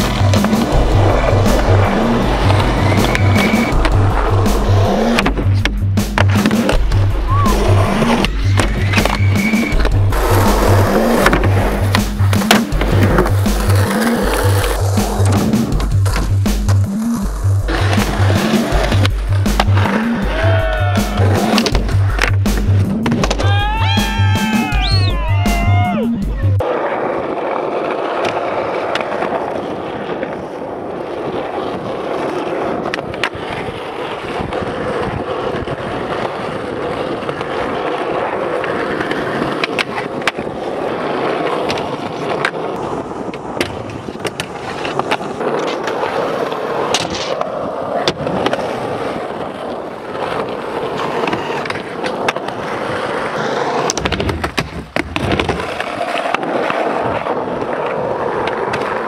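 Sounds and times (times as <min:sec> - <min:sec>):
skateboard clacks: 0:00.0 - 0:25.8, 0:26.4 - 0:59.0
skateboard wheels rolling on asphalt: 0:00.0 - 0:59.0.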